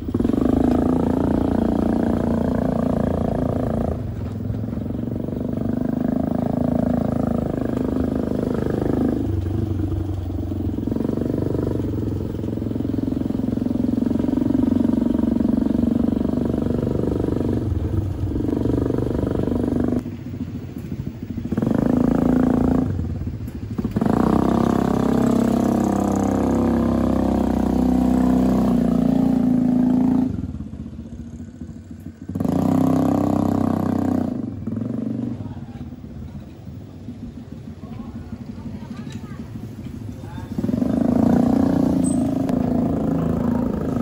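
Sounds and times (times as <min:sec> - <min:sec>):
buggy engine running: 0:00.0 - 0:44.0.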